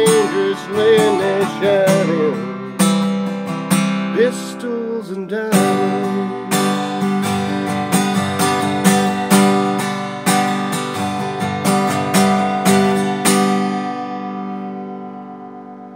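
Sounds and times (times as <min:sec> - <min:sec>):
acoustic guitar chords: 0:00.0 - 0:15.9.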